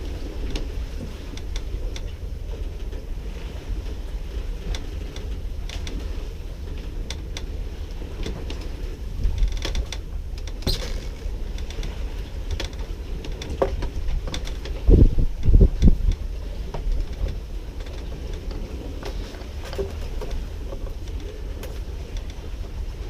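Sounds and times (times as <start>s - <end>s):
wind rumble on microphone: 0.0s - 23.0s
boat gear clicks and creaks: 0.1s - 23.0s.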